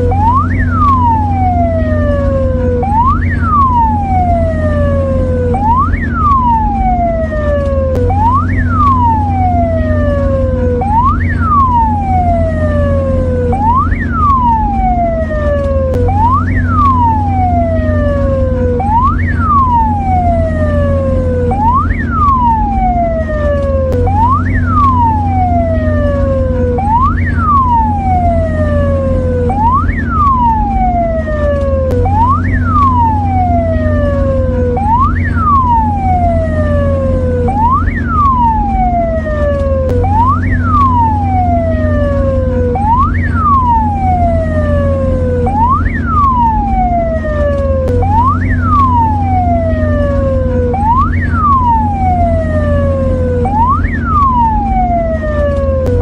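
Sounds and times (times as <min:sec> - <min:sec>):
ambulance siren: 0:00.0 - 0:56.0
steady low hum: 0:00.0 - 0:56.0.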